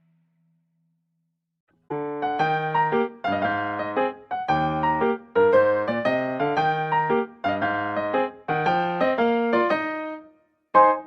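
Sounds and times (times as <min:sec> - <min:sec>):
piano melody: 0:01.9 - 0:11.0.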